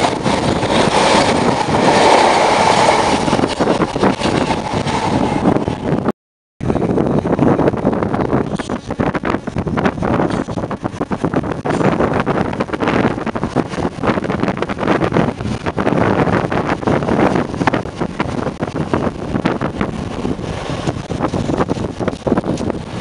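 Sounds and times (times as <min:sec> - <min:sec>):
trains passing: 0:00.0 - 0:23.0
wind buffeting microphone: 0:00.0 - 0:23.0.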